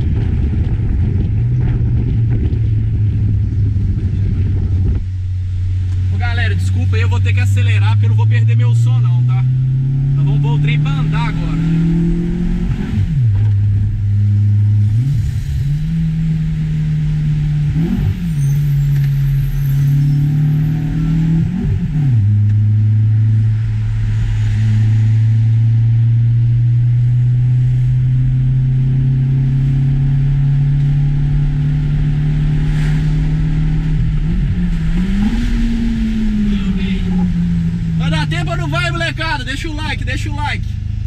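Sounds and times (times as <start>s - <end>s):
car engine revving hard: 6.2s - 40.5s.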